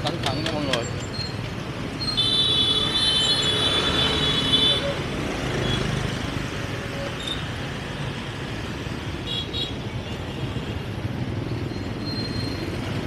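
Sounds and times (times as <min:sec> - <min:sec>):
motorbikes and cars passing: 0:00.0 - 0:13.0.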